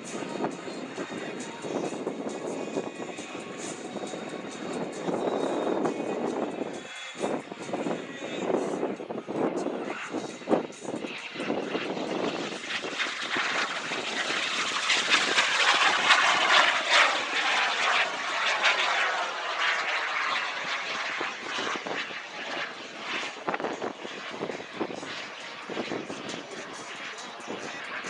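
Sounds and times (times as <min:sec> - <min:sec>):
small jet engine passing by: 0:00.0 - 0:28.0.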